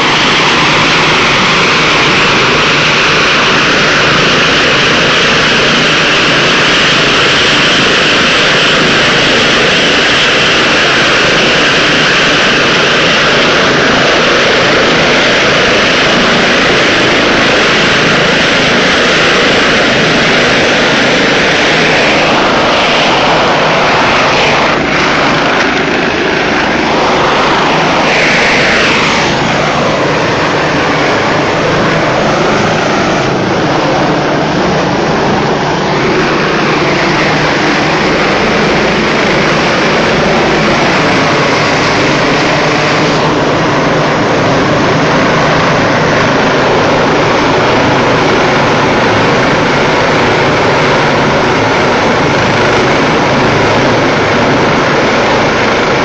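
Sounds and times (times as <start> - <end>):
helicopter rotor and turbine: 0.0 - 56.0.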